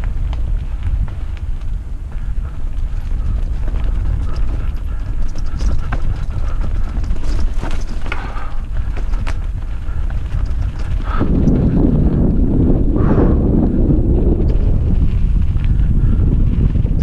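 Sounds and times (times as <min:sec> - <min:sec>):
bike clicks and rattles: 0:00.0 - 0:17.0
bike riding rumble: 0:00.0 - 0:17.0.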